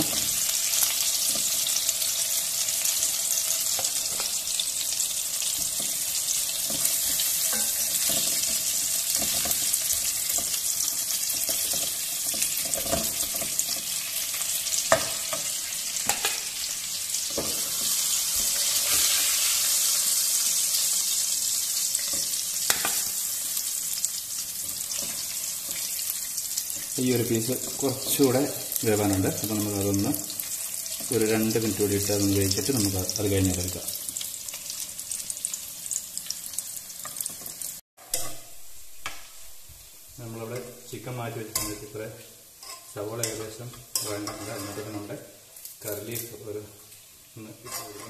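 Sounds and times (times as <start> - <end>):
chicken sizzling in oil: 0.0 - 48.0.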